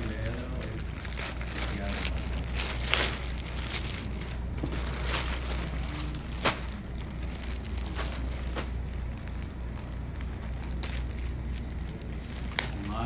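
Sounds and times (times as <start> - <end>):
plastic bags rustling and crinkling: 0.0 - 13.0.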